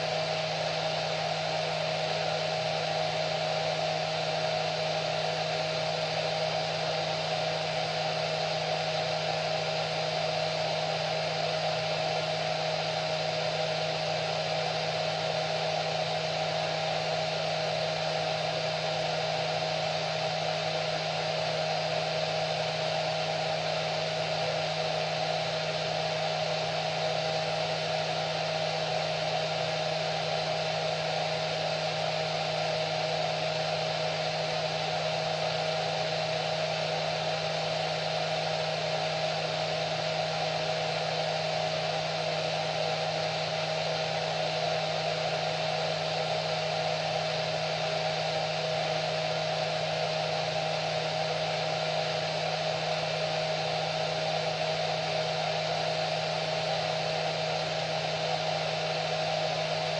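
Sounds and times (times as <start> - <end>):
hair dryer running: 4.6 - 59.9.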